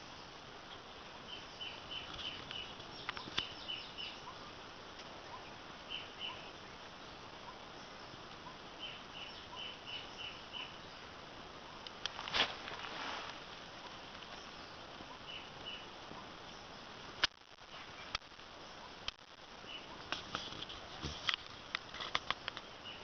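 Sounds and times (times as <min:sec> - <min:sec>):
small bird chirping: 0:00.0 - 0:12.2, 0:13.8 - 0:17.0, 0:17.7 - 0:21.0, 0:22.3 - 0:23.0
faint background hiss: 0:00.0 - 0:23.0.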